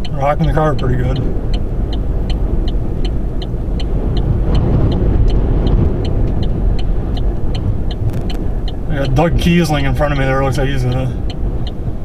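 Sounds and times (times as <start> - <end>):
fast regular ticking: 0.0 - 12.0
wind buffeting a car: 0.0 - 12.0.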